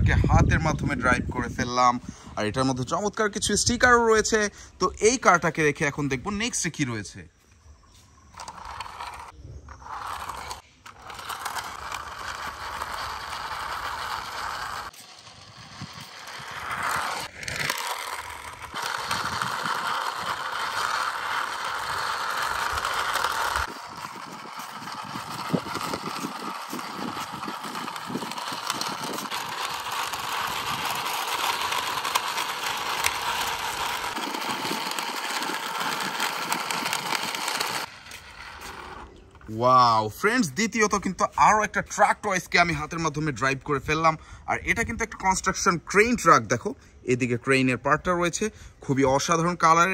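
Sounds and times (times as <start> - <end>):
toy wheels scraping on concrete: 0.1 - 49.9.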